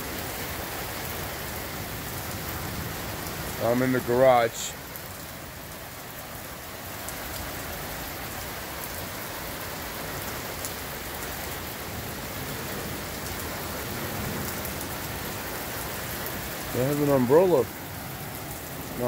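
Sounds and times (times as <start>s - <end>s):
heavy rain on cars and pavement: 0.0s - 19.0s.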